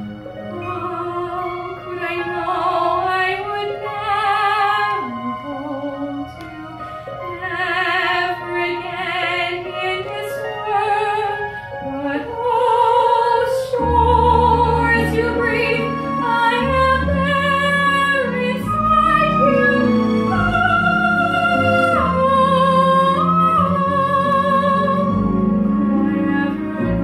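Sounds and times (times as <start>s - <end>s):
instrumental accompaniment: 0.0s - 27.0s
woman singing operatically: 0.6s - 25.3s, 25.9s - 27.0s.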